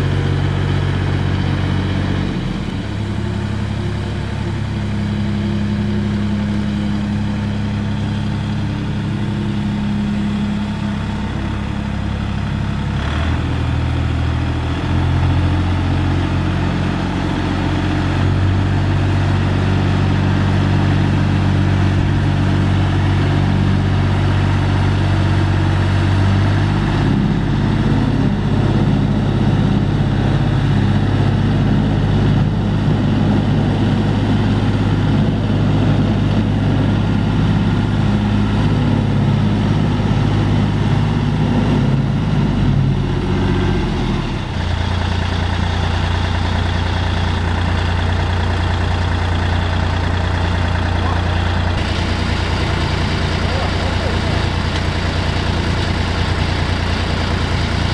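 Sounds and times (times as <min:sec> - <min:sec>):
road roller diesel engine running: 0:00.0 - 0:57.9.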